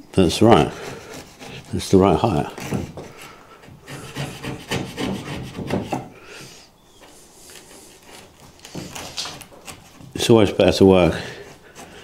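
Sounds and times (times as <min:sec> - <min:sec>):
chisel scraping wood: 0:00.2 - 0:06.1, 0:07.0 - 0:12.0.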